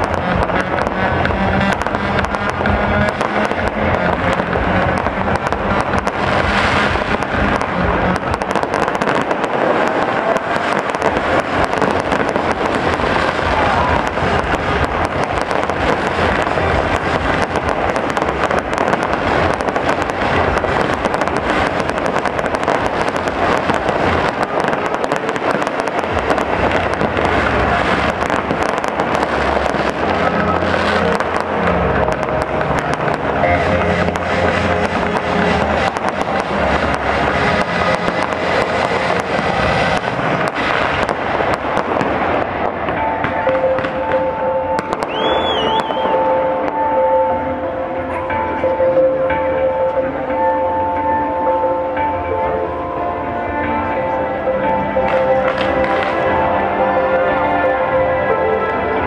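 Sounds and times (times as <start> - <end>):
fireworks crackling and popping: 0.0 - 47.3, 54.9 - 56.5.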